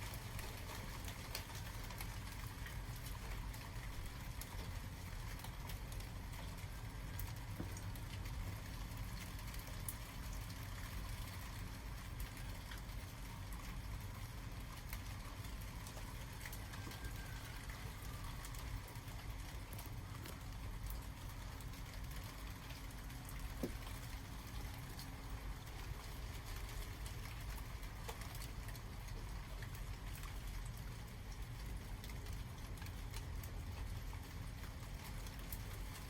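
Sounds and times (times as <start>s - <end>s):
raindrops ticking: 0.0s - 36.0s.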